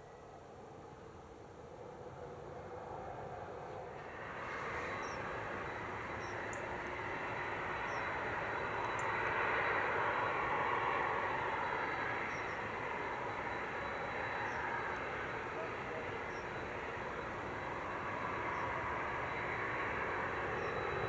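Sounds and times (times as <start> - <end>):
jet engines roaring: 4.0 - 21.0.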